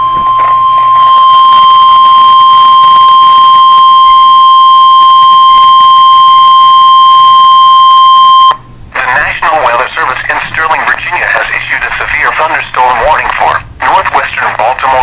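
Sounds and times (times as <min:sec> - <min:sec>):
steady alarm tone: 0:00.0 - 0:13.2.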